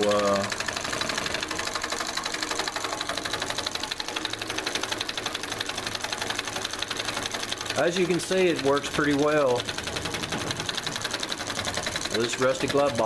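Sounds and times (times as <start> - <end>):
solenoid engine clattering: 0.0 - 13.0.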